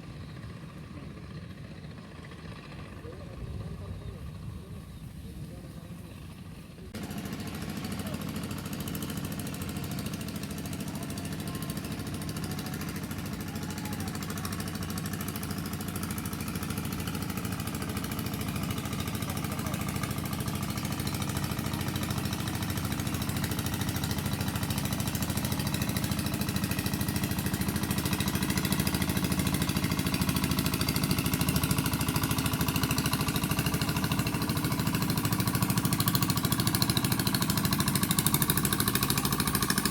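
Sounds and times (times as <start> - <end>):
engine running with fast rattle: 0.0 - 39.9.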